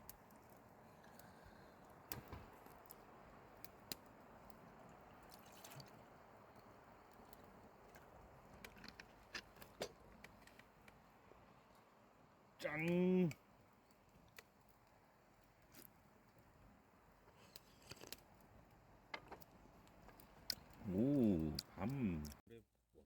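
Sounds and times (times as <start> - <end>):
quiet low hiss: 0.0 - 23.0.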